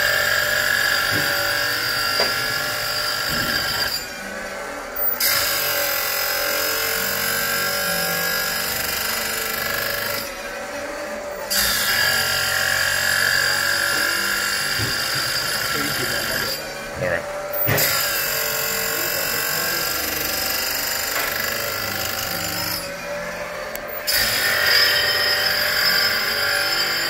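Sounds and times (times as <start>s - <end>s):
saw chain grinder whining: 0.0s - 27.0s.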